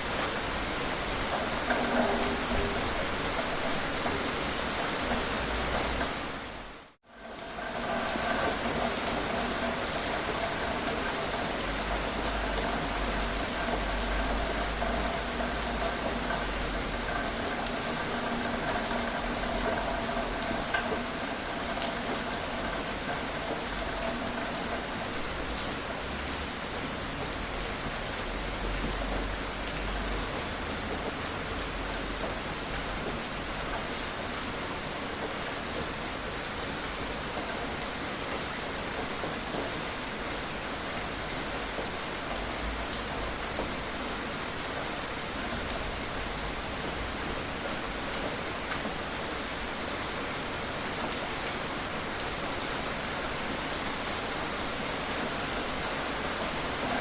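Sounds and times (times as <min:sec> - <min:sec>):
gentle rain hiss: 0:00.0 - 0:57.0
raindrop ticks: 0:00.1 - 0:06.3, 0:07.2 - 0:50.3.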